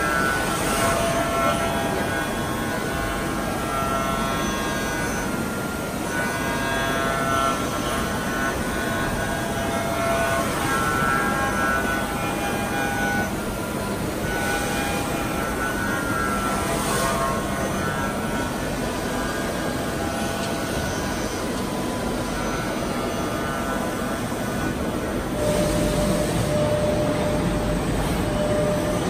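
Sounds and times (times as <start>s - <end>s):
milling machine whine: 0.0s - 29.0s.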